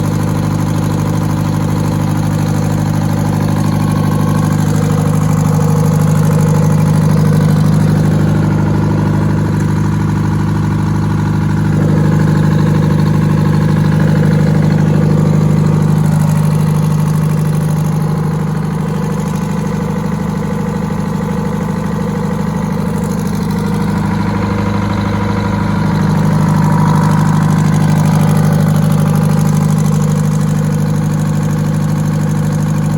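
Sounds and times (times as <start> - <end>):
diesel engine running steadily: 0.0 - 32.9.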